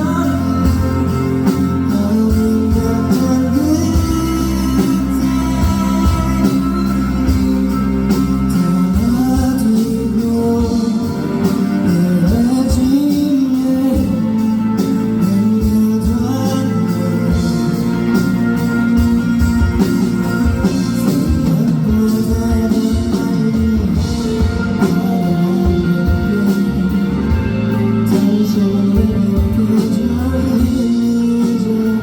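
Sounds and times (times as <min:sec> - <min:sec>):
rock song with singing: 0:00.0 - 0:32.0.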